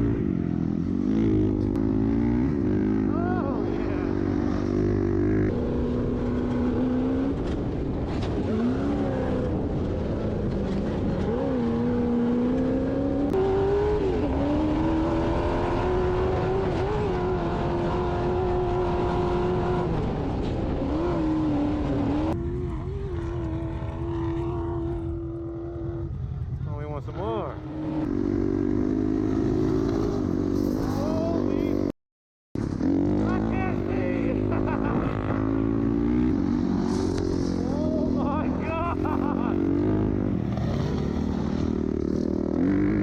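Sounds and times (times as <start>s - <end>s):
off-road vehicle engine revving: 0.0s - 26.4s, 32.7s - 43.0s.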